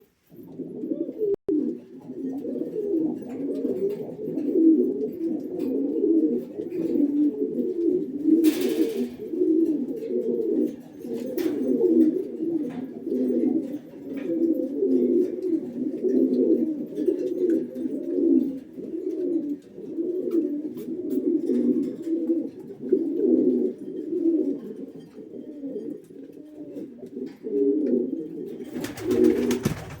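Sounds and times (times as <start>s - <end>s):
pigeons cooing: 0.3s - 30.0s.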